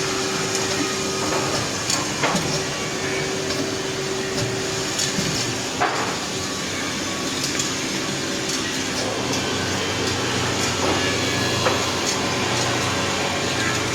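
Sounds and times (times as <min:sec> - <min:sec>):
machine motor hum and whir: 0:00.0 - 0:13.9.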